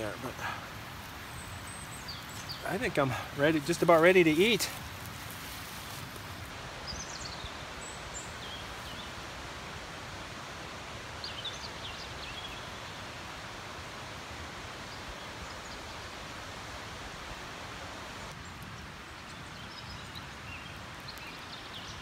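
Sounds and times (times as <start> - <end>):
forest rustling hiss: 0.0 - 22.0.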